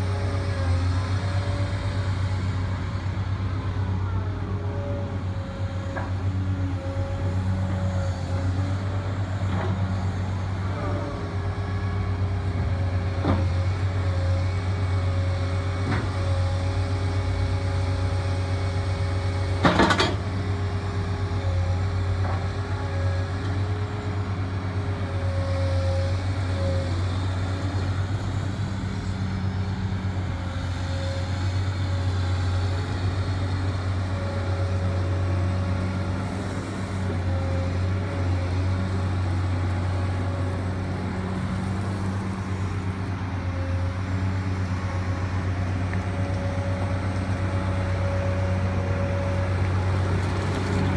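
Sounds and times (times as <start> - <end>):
diesel engine under load: 0.0 - 50.9.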